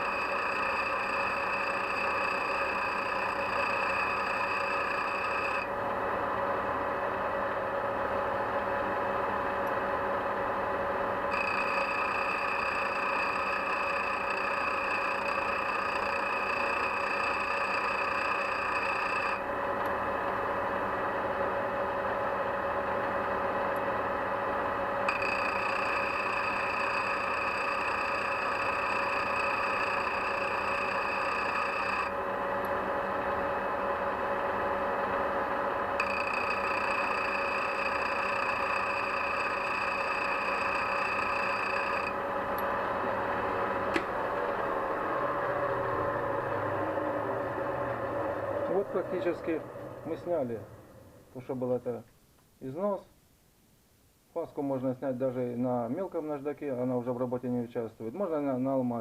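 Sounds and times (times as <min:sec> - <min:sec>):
grinding wheel running: 0:00.0 - 0:51.0
high grinding whine: 0:00.0 - 0:51.9.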